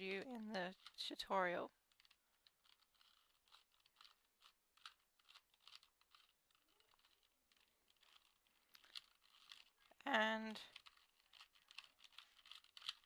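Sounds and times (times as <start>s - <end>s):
puzzle cube clicking: 0.3s - 1.0s, 1.7s - 10.0s, 10.6s - 13.0s.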